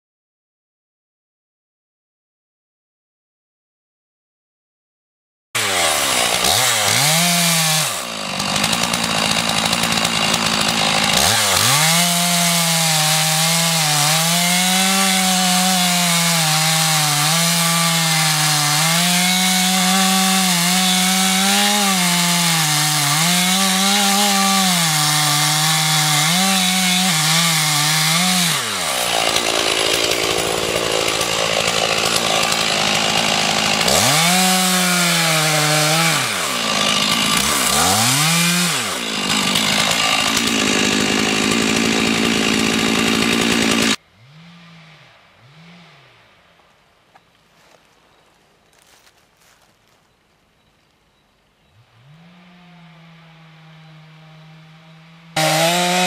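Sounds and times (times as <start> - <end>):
chainsaw cutting wood: 5.6 - 50.0, 51.8 - 56.0.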